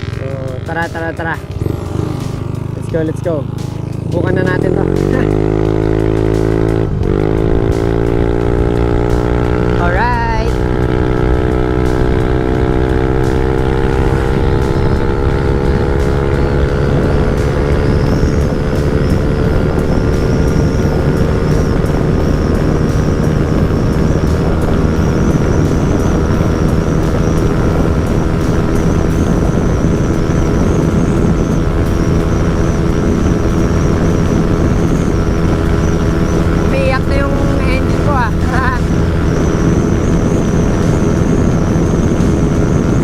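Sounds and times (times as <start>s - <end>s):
rush of wind: 0.0s - 43.0s
scooter engine at full throttle: 0.0s - 43.0s.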